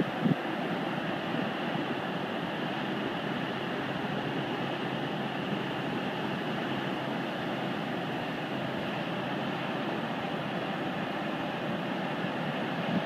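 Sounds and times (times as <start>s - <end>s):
diesel truck engine drone: 0.0s - 13.0s
floodwater rushing: 0.0s - 13.0s.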